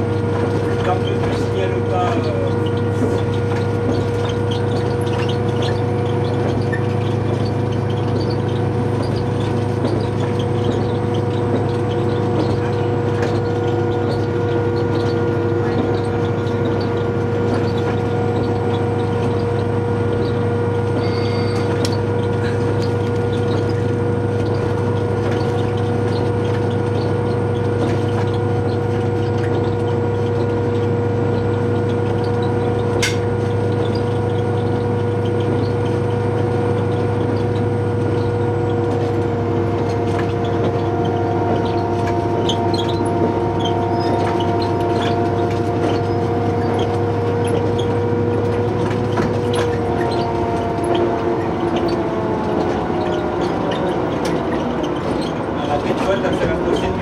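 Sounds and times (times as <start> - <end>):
diesel train engine running: 0.0 - 57.0.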